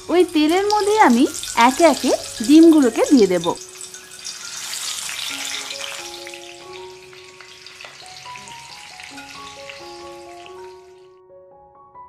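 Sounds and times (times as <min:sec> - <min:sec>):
eggs sizzling in hot oil: 0:00.0 - 0:11.1
soft background melody: 0:00.0 - 0:12.0.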